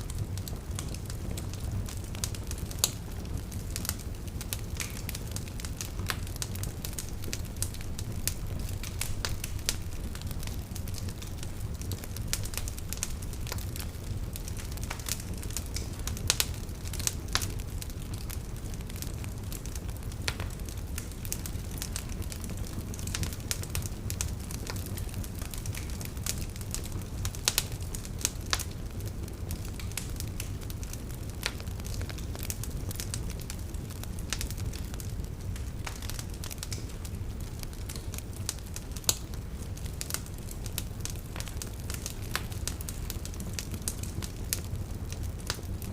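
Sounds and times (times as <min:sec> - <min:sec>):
open fire crackling: 0:00.0 - 0:45.9.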